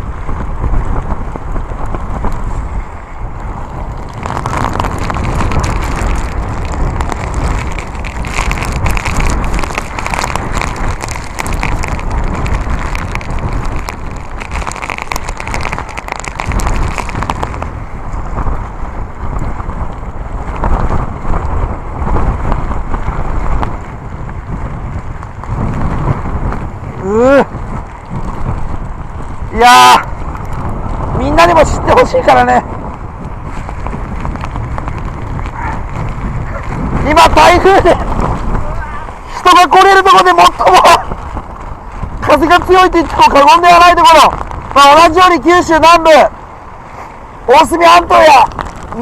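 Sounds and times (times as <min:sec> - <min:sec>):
rain hitting microphone: 0:00.0 - 0:49.0
strong wind buffeting microphone: 0:00.0 - 0:49.0.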